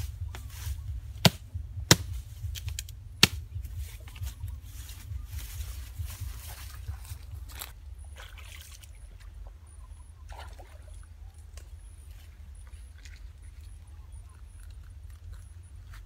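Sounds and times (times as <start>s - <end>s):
grass and leaves rustling: 0.0s - 9.6s, 10.4s - 16.0s
steady low rumble: 0.0s - 16.0s.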